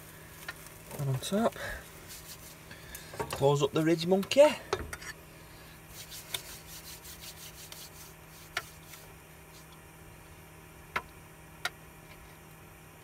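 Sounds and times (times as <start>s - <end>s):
faint crackling in a pan: 0.0s - 12.7s
gas burner hum: 0.0s - 13.0s.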